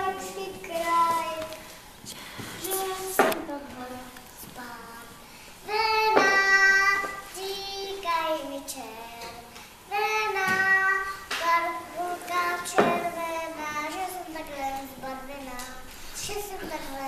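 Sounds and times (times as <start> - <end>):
child singing: 0.0 - 1.7, 2.6 - 17.0.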